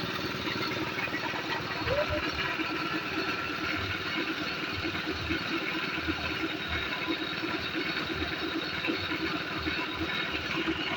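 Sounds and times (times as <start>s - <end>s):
motor running with fast pulsing: 0.0s - 10.9s.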